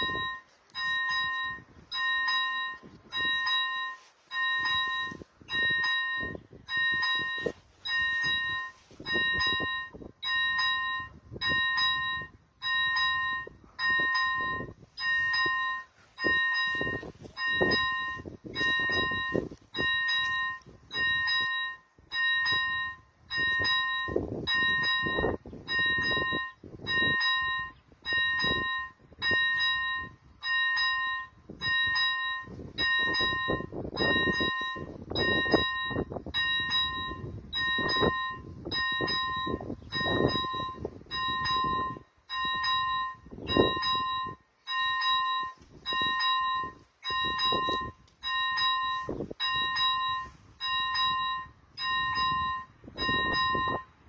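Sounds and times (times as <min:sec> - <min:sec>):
level crossing bell dings: 0:00.0 - 0:53.9.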